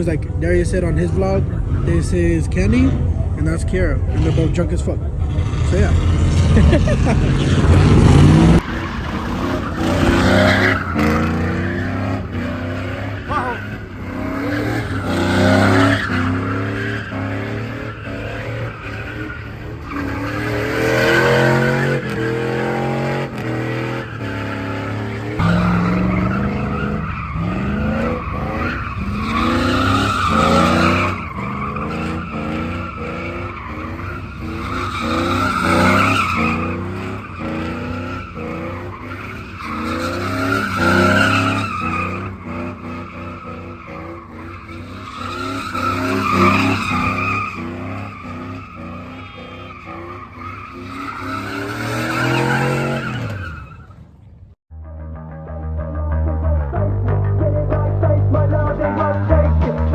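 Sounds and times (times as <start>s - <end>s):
car engine revving: 0.0s - 54.0s
tires squealing on pavement: 0.0s - 54.4s.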